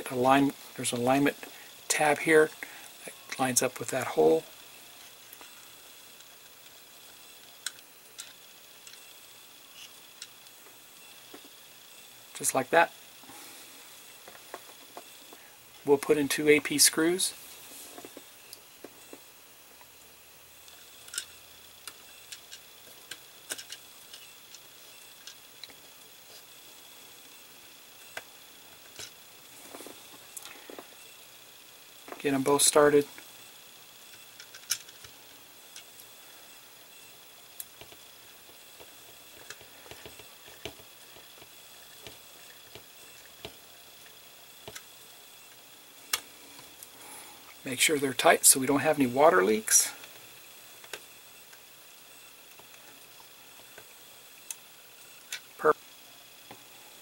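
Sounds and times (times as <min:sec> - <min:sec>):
low steady hiss: 0:00.0 - 0:57.0.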